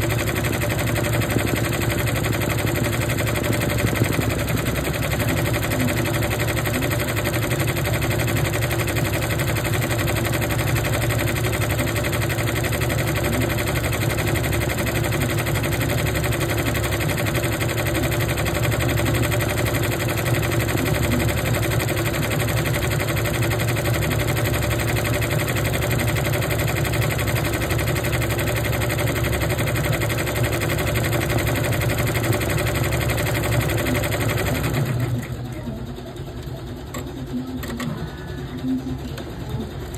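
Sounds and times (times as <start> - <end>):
embroidery machine needle clatter: 0.0 - 35.6, 36.3 - 39.9.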